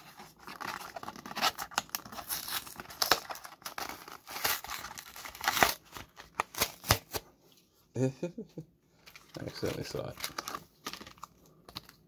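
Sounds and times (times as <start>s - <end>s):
packaging crinkling and ripping: 0.0s - 7.3s, 9.0s - 12.0s.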